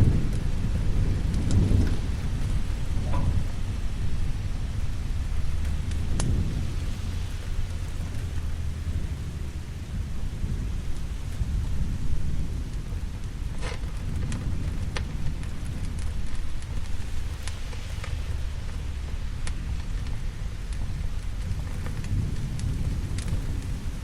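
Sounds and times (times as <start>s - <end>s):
crackling wood fire pops: 0.0s - 24.0s
low rumble of thunder: 0.0s - 24.0s
steady rain: 0.0s - 24.0s.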